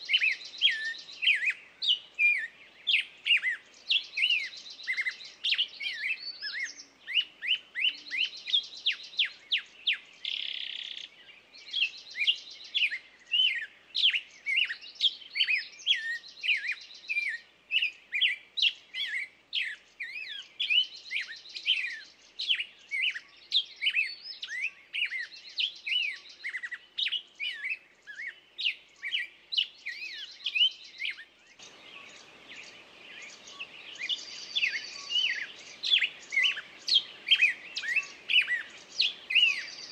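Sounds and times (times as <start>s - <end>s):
faint low hiss: 0.0s - 39.9s
songbirds chirping: 0.0s - 39.9s.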